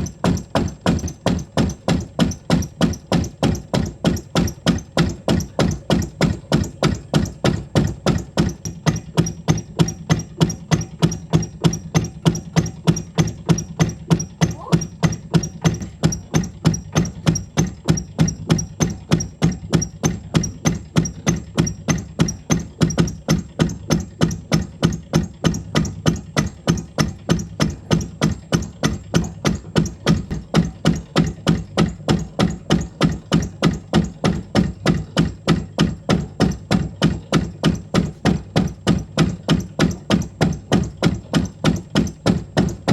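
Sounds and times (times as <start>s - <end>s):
low machine hum: 0.0s - 42.9s
sharp wooden knocks: 0.0s - 42.9s.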